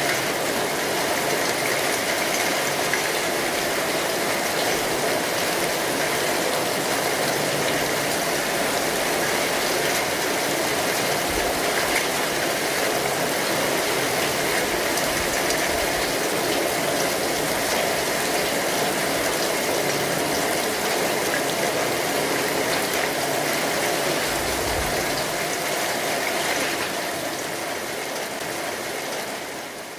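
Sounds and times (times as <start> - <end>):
rain pattering on an umbrella: 0.0 - 29.9.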